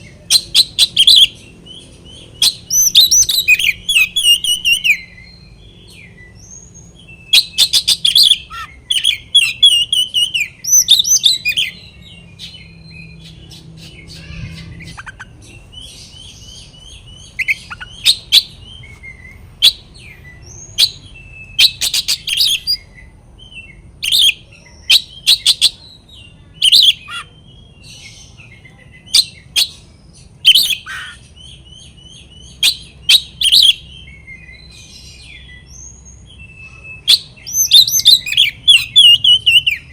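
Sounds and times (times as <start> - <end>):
bird singing trills and harsh phrases: 0.0 - 39.9.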